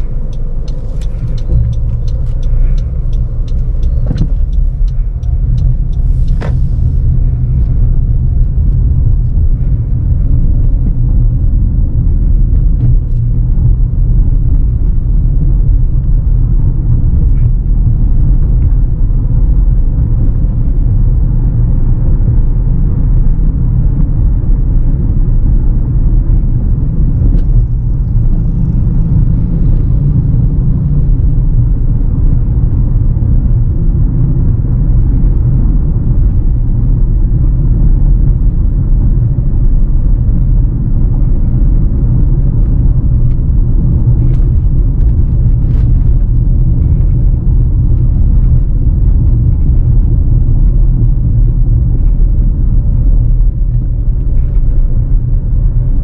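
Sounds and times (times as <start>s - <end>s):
car engine and tyres from inside: 0.0s - 56.0s.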